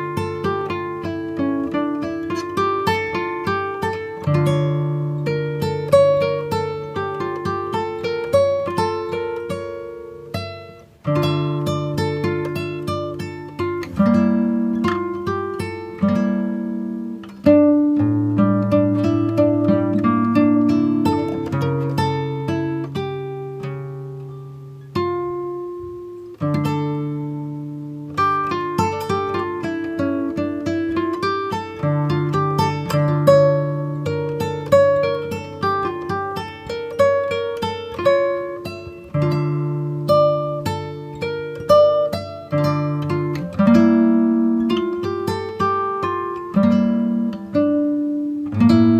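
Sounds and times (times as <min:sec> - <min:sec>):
plucked guitar notes: 0:00.0 - 0:48.9.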